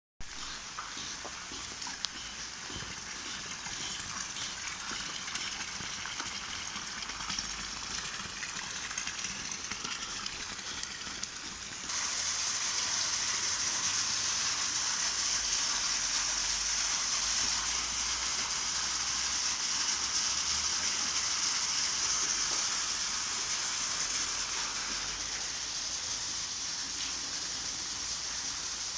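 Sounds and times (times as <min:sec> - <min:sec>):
rainwater hissing: 0:00.2 - 0:28.9.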